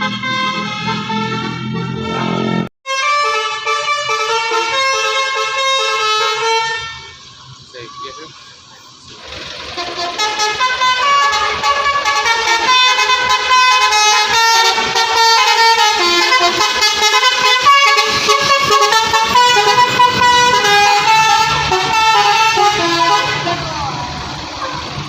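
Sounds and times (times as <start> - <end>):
musical air horns playing a tune: 0.0 - 7.2, 9.6 - 23.8.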